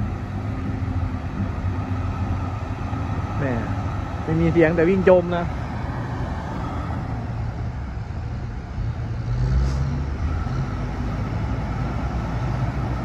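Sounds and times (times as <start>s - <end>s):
heavy diesel machinery engines: 0.0s - 13.0s.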